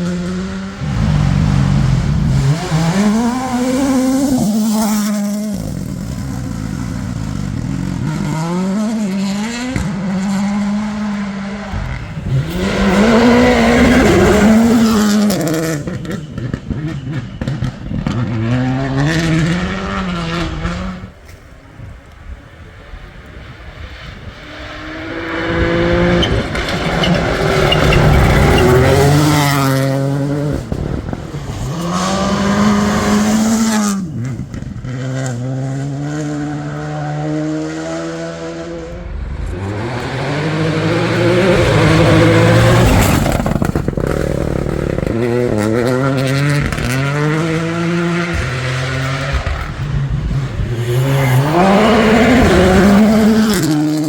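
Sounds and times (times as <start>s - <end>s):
rally cars revving past: 0.0s - 21.4s, 22.6s - 54.0s.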